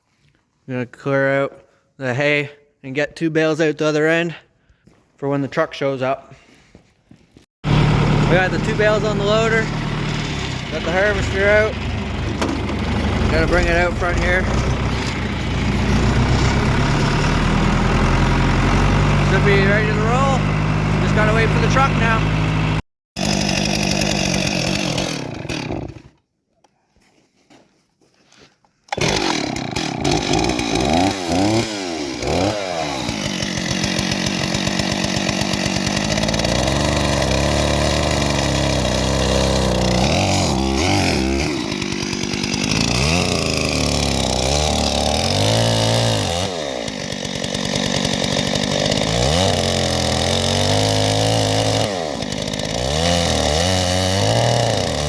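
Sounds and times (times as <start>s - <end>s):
chainsaw revving: 7.6s - 26.2s, 28.9s - 55.0s.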